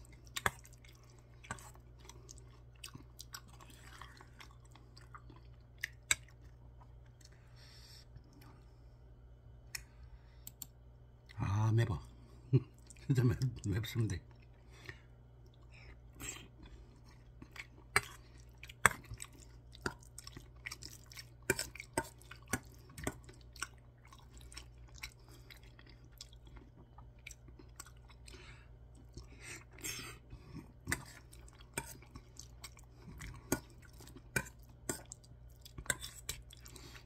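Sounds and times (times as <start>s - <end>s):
close-up chewing: 0.0s - 8.7s, 14.2s - 37.0s.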